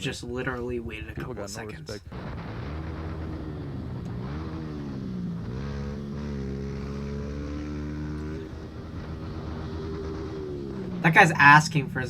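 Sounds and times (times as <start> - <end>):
motorcycle engine running: 2.1 - 12.0.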